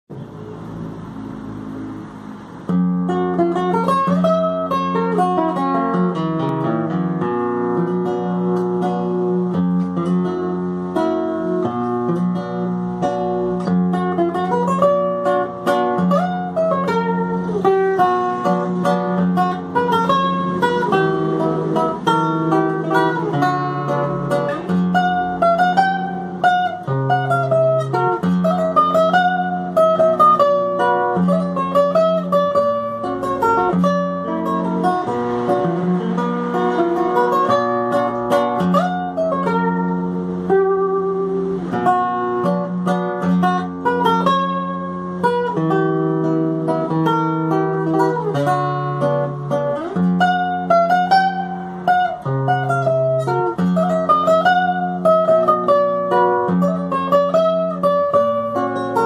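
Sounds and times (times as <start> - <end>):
solo classical guitar waltz: 0.1 - 59.0.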